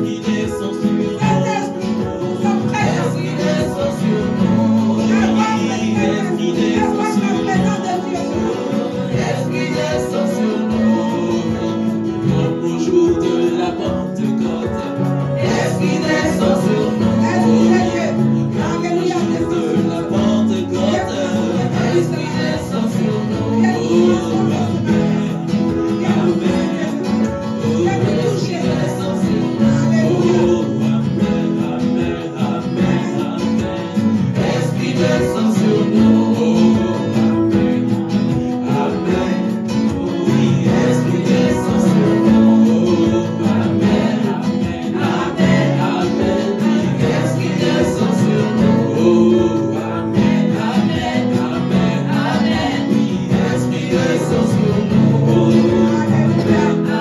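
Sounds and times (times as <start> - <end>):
group singing gospel: 0.0 - 57.0.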